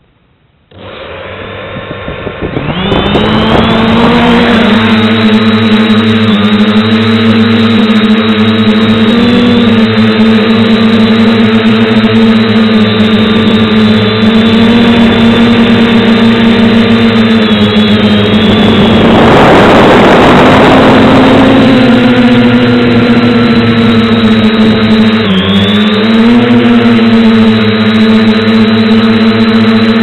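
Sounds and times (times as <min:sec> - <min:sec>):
drone propellers whining: 0:00.0 - 0:30.0
rush of noise: 0:00.8 - 0:30.0.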